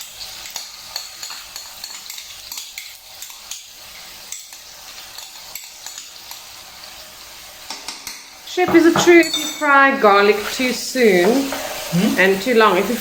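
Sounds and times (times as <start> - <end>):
meat sizzling in hot oil: 0.0 - 13.0
spoon scraping a pan: 0.0 - 13.0.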